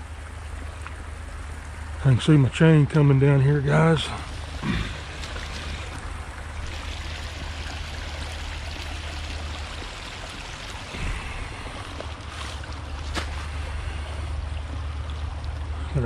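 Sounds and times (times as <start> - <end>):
water rushing at a dam: 0.0 - 16.0.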